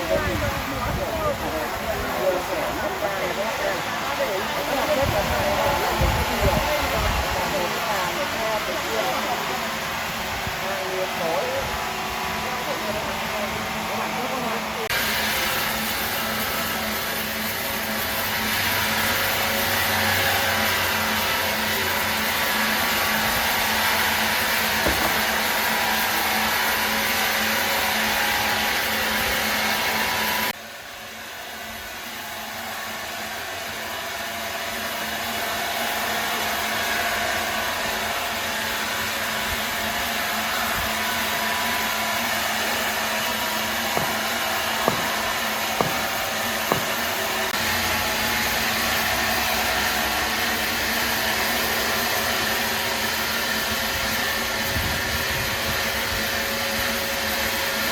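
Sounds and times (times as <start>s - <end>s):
woodworking machinery whirring: 0.0s - 30.5s, 31.7s - 57.9s.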